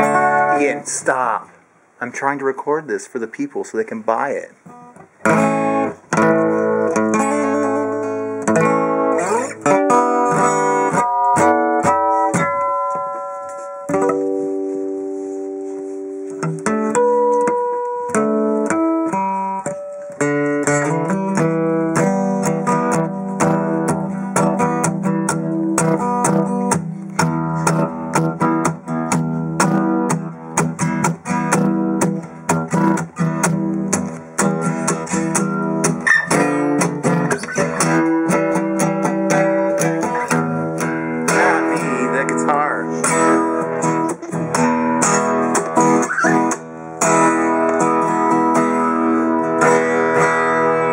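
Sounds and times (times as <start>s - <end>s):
acoustic guitar playing: 0.0s - 50.9s.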